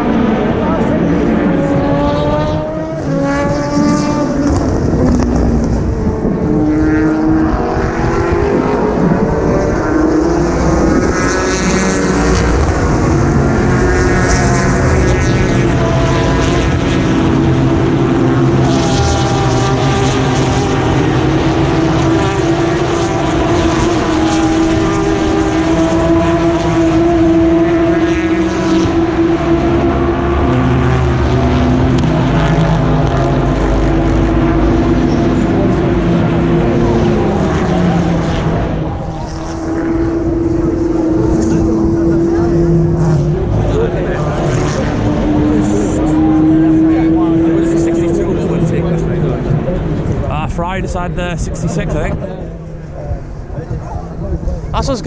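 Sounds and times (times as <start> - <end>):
race cars passing: 0.0 - 55.0.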